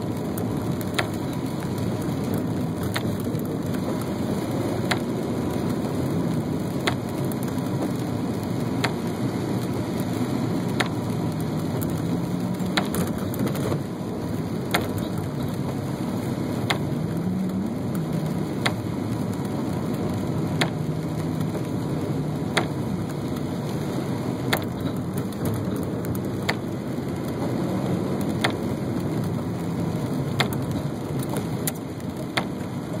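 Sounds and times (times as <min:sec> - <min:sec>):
engine hum: 0:00.0 - 0:33.0
rain and tyres on wet road: 0:00.0 - 0:33.0.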